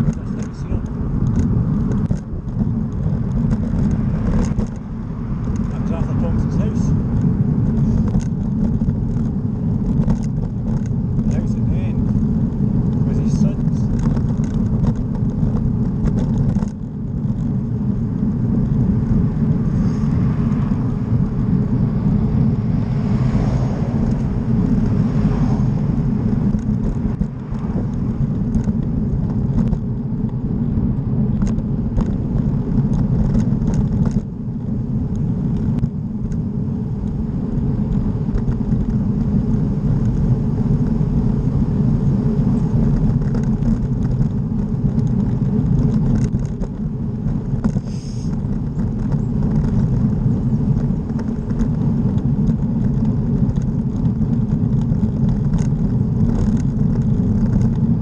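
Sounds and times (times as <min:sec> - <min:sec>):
bicycle tyre noise on road: 0:00.0 - 0:58.0
wind buffeting microphone: 0:00.0 - 0:58.0.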